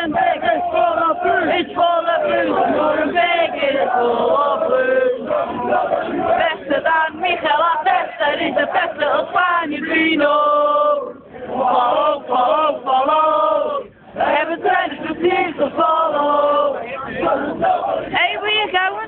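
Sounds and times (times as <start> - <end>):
crowd chanting: 0.0 - 19.0.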